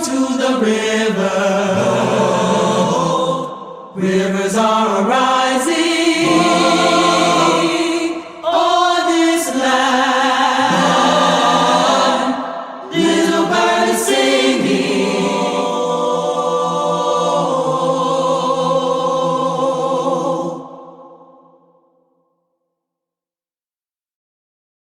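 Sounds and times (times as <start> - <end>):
choir singing in harmony: 0.0 - 21.8.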